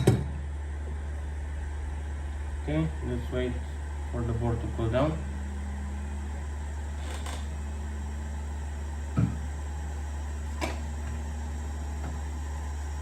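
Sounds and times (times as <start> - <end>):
bench equipment humming: 0.0 - 13.0.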